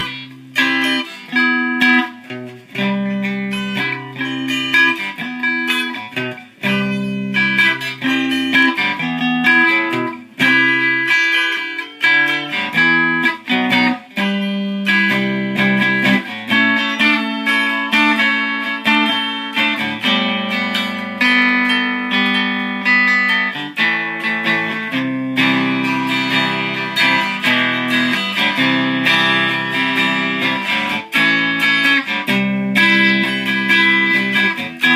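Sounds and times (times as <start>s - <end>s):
guitar picked notes and chords: 0.0s - 34.9s.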